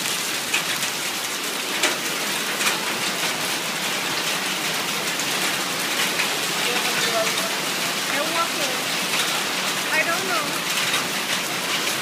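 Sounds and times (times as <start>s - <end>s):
hailstones clicking: 0.0s - 12.0s
heavy rain on pavement: 0.0s - 12.0s.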